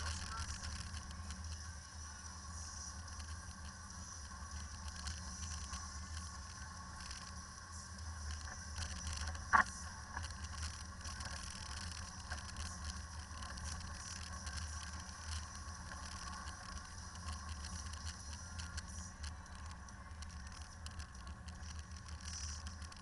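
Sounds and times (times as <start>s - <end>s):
engine and road drone: 0.0s - 23.0s
small rattles and clicks: 0.0s - 23.0s.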